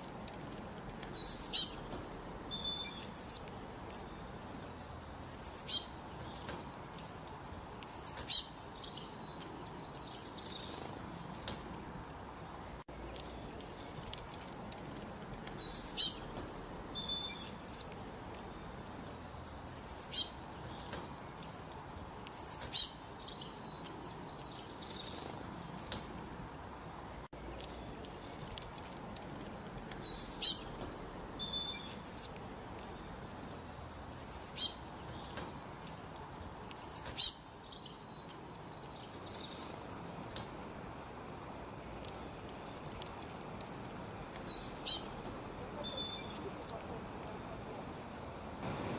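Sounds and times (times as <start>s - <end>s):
small bird singing: 0.0s - 43.4s, 44.2s - 48.9s
faint background hiss: 0.0s - 48.9s.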